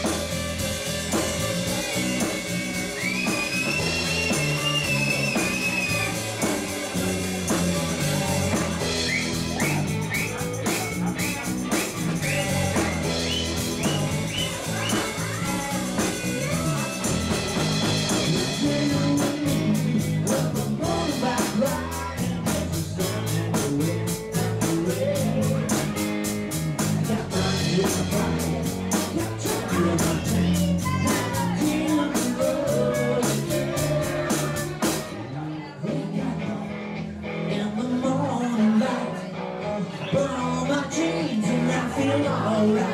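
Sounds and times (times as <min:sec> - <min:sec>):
high lead guitar line: 0:00.0 - 0:35.4, 0:36.1 - 0:42.9
country-rock band playing: 0:00.0 - 0:42.9.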